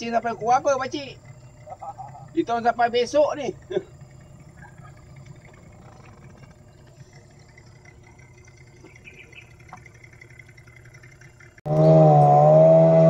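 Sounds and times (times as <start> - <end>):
faint low engine hum: 0.0 - 12.6.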